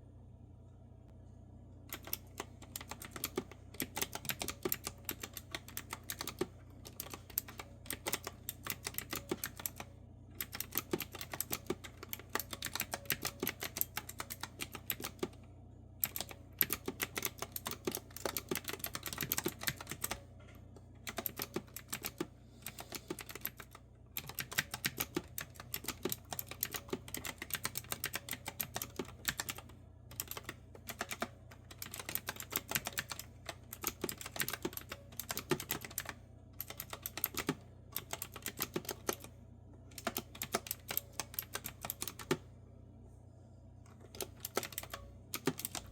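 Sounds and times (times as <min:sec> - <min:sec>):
clicky keyboard typing: 0:01.9 - 0:15.4, 0:16.0 - 0:20.2, 0:20.8 - 0:42.4, 0:43.9 - 0:45.9.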